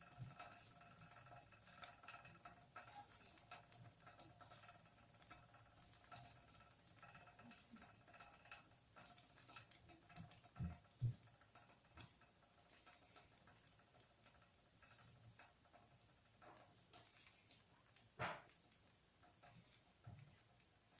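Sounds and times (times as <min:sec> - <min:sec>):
flywheel spinning: 0:00.0 - 0:20.9
light irregular ticking: 0:00.0 - 0:20.9.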